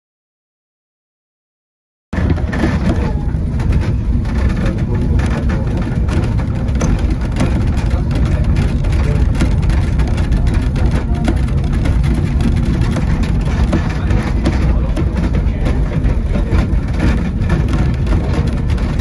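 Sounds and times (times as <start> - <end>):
train engine rumbling: 2.2 - 19.0.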